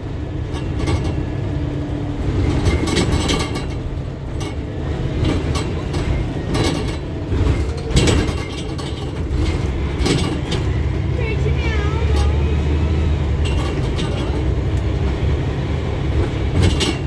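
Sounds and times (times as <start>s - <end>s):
rattles and knocks of bus fittings: 0.0s - 11.4s, 13.2s - 17.0s
bus engine and road rumble: 0.0s - 17.0s.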